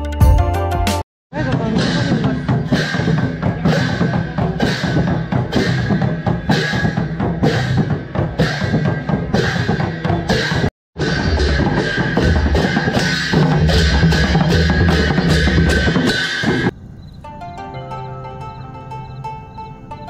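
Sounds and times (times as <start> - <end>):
barrel drums beating: 0.2 - 16.8.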